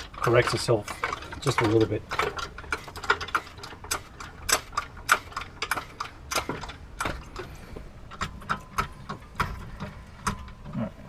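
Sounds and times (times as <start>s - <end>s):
jack clicking: 0.0s - 10.9s.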